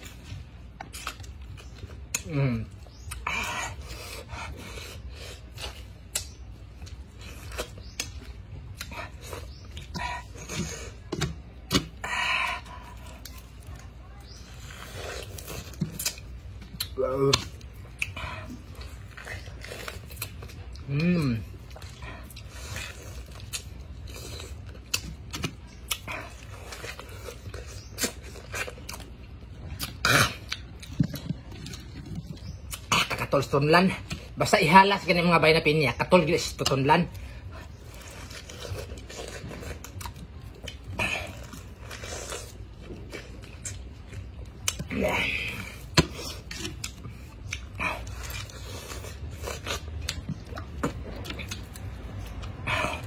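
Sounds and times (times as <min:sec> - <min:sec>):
person chewing crunchy fruit: 0:00.0 - 0:53.0.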